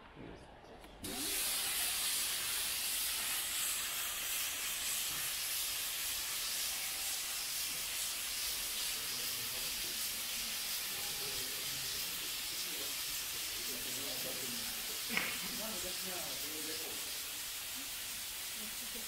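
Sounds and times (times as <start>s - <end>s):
steam hissing from nozzles: 1.0s - 19.0s.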